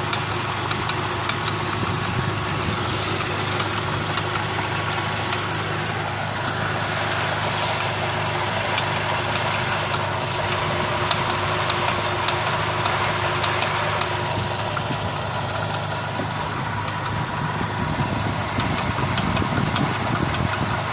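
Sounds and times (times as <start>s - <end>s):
engine idling with light knock: 0.0s - 20.9s.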